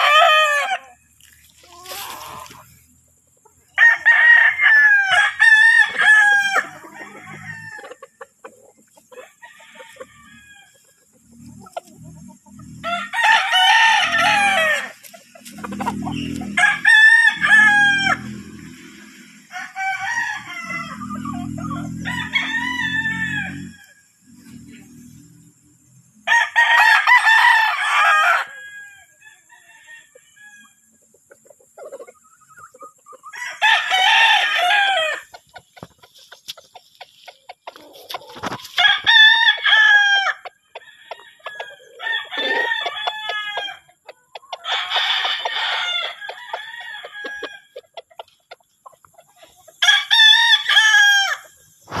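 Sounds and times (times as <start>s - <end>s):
roosters crowing: 0.0s - 3.0s, 3.6s - 30.9s, 32.0s - 36.2s, 37.1s - 48.2s, 49.6s - 52.0s.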